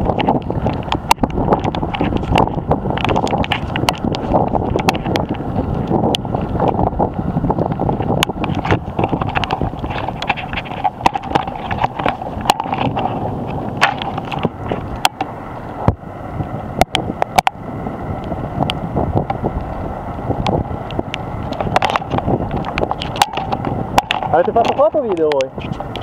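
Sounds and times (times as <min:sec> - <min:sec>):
sharp clicks and pops: 0:00.0 - 0:06.8, 0:07.5 - 0:16.0, 0:20.4 - 0:26.0
wind buffeting microphone: 0:00.0 - 0:26.0.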